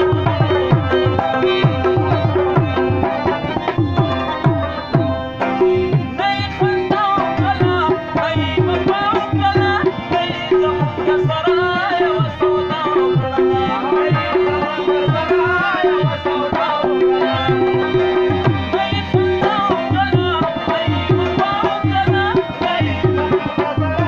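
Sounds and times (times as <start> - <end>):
bending melody line: 0.0 - 24.0
tabla rhythm: 0.0 - 24.0.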